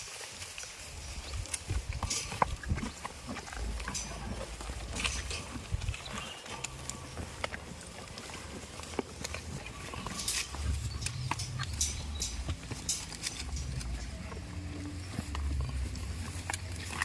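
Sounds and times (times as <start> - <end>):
goats moving about: 0.0 - 17.0.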